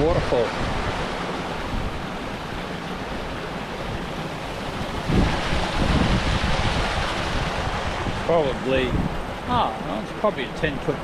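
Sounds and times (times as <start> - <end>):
water falling over waterfall: 0.0 - 11.0
wind buffeting microphone: 0.0 - 11.0.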